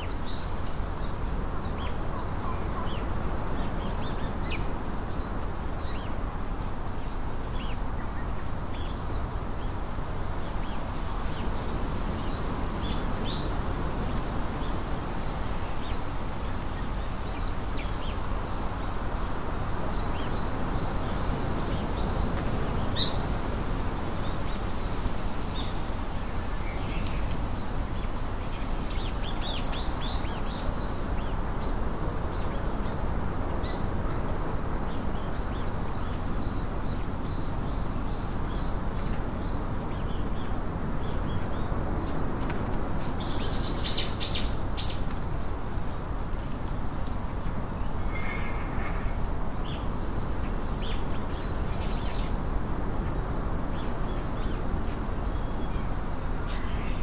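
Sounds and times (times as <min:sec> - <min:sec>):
outdoor background noise: 0:00.0 - 0:57.0
small birds chirping: 0:00.0 - 0:57.0.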